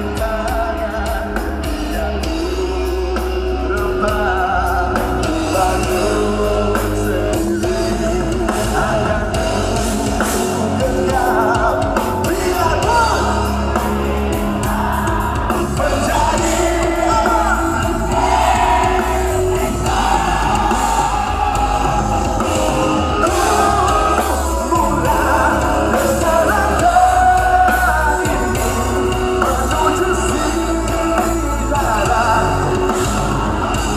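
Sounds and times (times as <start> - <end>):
live rock band: 0.0 - 33.9
person singing: 0.0 - 33.9.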